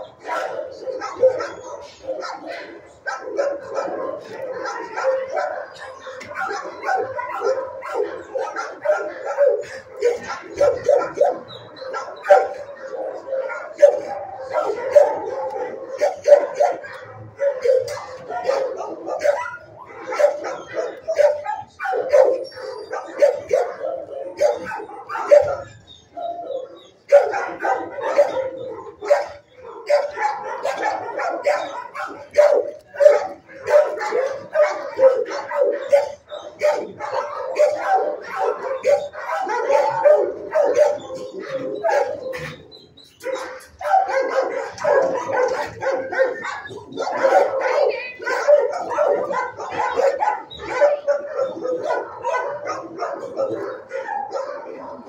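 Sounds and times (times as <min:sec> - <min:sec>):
dogs barking: 0:00.0 - 0:55.0.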